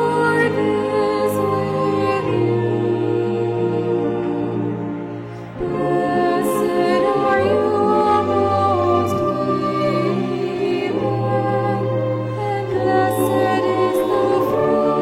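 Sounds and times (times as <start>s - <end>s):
choir singing long chords: 0.0s - 15.0s.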